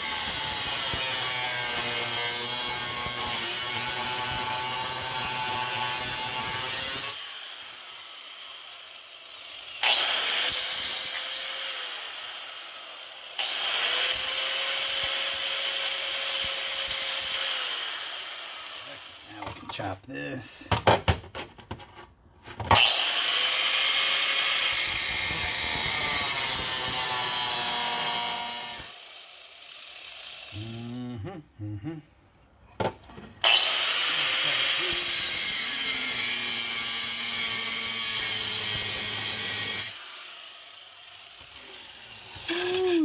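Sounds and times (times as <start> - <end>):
power cutting tool cutting metal: 0.0 - 19.2, 22.8 - 31.0, 33.4 - 43.0.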